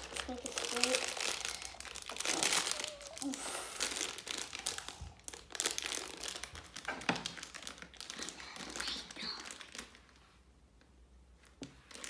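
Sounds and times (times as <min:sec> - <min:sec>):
plastic wrapper crinkling: 0:00.0 - 0:10.2, 0:11.4 - 0:12.0.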